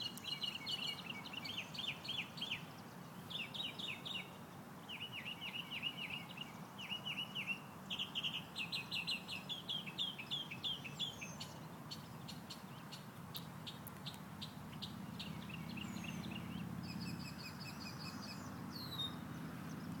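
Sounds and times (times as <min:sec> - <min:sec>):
birds chirping and singing: 0:00.0 - 0:04.3, 0:04.9 - 0:13.1, 0:13.7 - 0:20.0.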